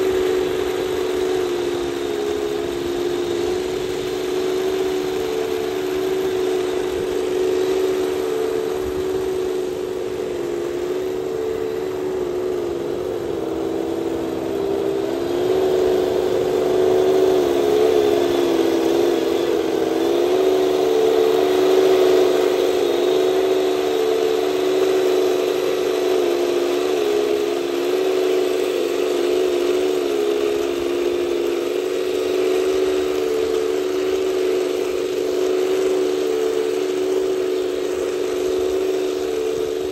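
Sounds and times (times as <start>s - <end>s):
toy tank motor drone: 0.0s - 39.9s.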